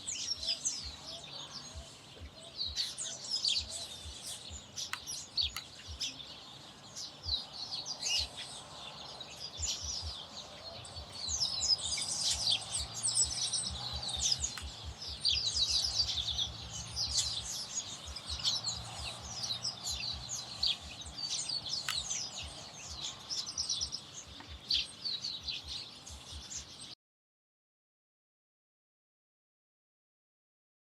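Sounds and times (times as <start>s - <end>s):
flock of birds chirping: 0.0s - 27.0s.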